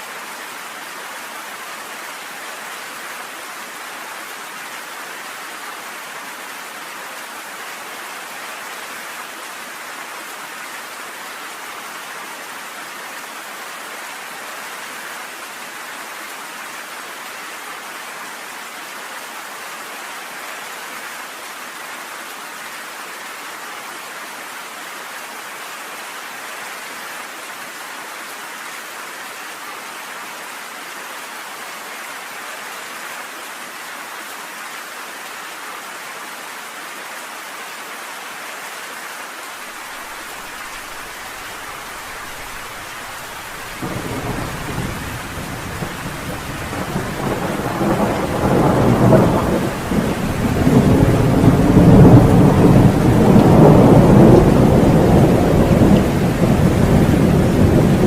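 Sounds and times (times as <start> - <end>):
rain pelting on a porch: 0.0 - 58.0.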